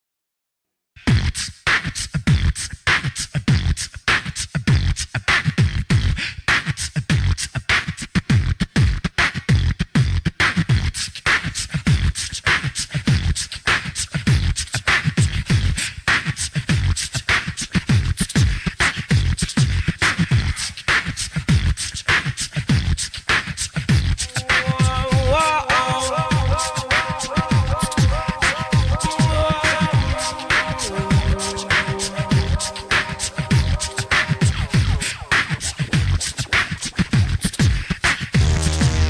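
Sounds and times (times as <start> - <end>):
beatboxed vocal percussion: 1.0 - 39.0.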